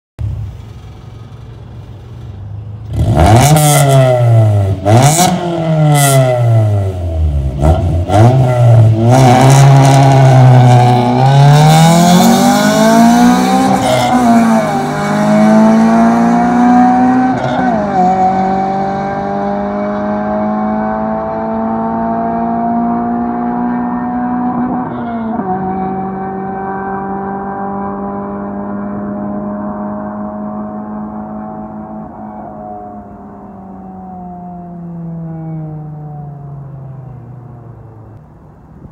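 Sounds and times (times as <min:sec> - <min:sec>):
car engine revving: 0:02.7 - 0:37.9.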